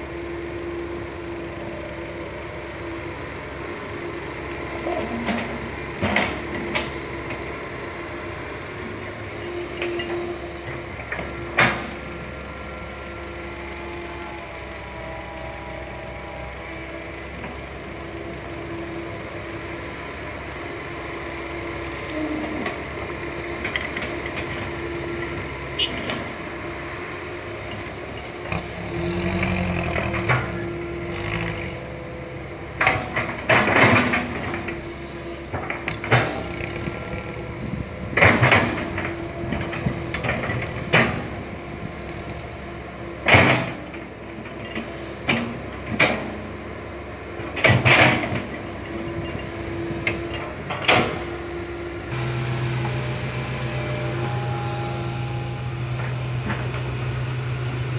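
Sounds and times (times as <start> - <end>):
excavator engine running: 0.0 - 57.9.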